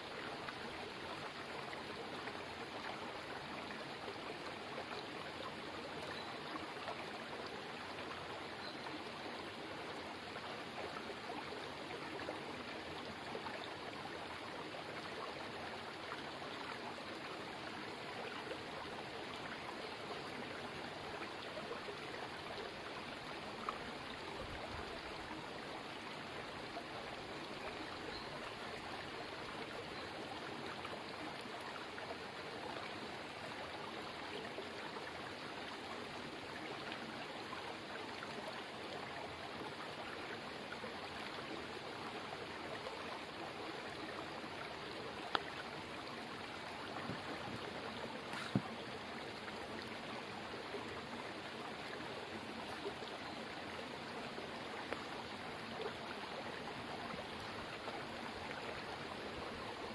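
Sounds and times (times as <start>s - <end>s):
stream babbling over boulders: 0.0s - 59.9s.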